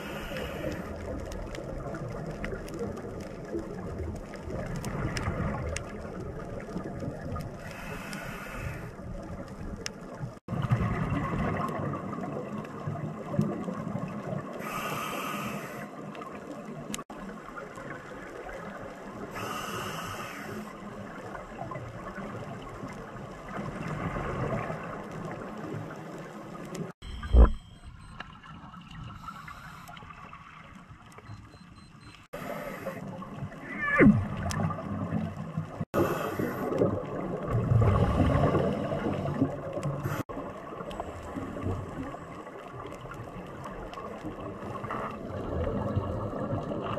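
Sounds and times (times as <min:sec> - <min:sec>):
scuba exhaust bubbles: 0:00.0 - 0:26.0, 0:32.3 - 0:46.9.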